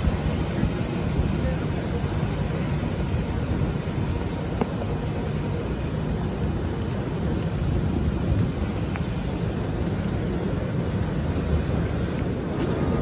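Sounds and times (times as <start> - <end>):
airport ramp rumble: 0.0 - 13.0.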